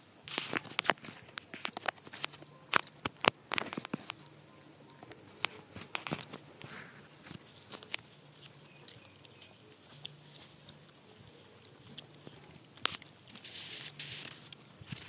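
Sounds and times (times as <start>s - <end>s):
monkey crunching watermelon: 0.2s - 15.0s.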